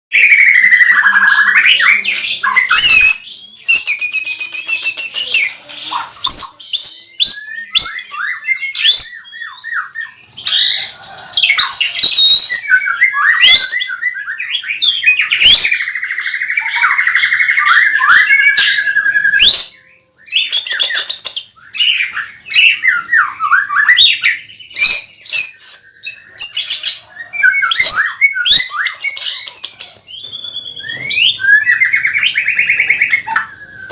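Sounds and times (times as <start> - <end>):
bird singing varied song: 0.1 - 33.9.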